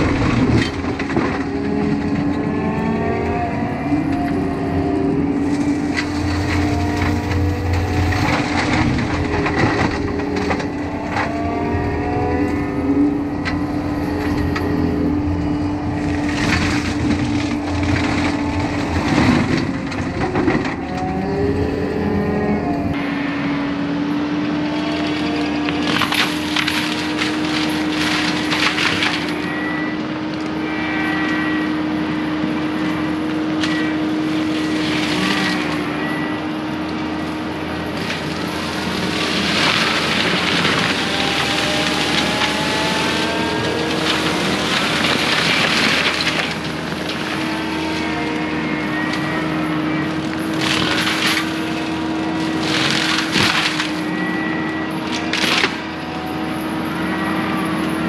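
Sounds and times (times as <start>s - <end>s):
grinding and cracking of wood: 0.0s - 23.0s, 24.4s - 58.0s
forestry mulcher running: 0.0s - 58.0s.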